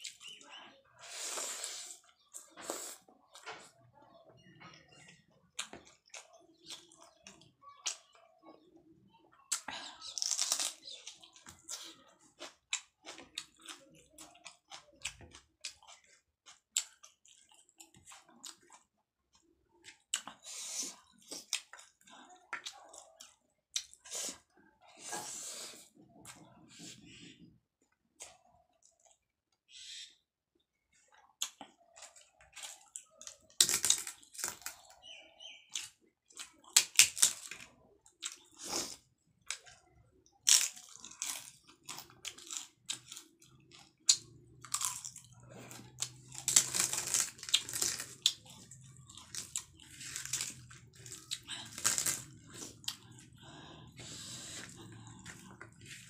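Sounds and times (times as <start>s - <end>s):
chewing and crunching: 0.0s - 29.4s, 30.8s - 56.0s.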